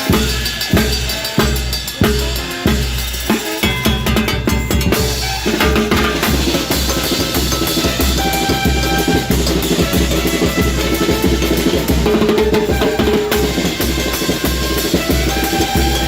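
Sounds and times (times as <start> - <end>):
band playing held notes: 0.0 - 16.0
bass drum beat: 0.0 - 16.0
timbales and drums: 0.0 - 16.0.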